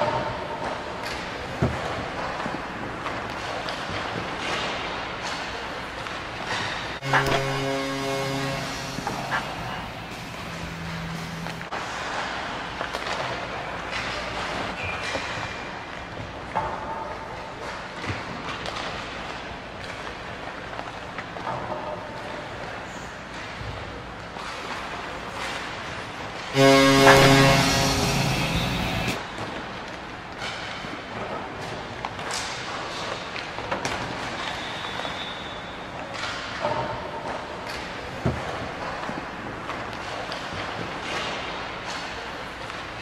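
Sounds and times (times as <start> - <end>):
steady background noise: 0.0 - 43.0.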